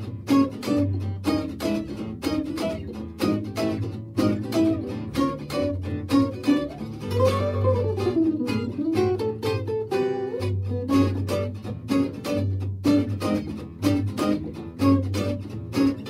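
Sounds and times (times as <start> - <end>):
strummed guitar: 0.0 - 16.0
sliding melody line: 0.3 - 15.4.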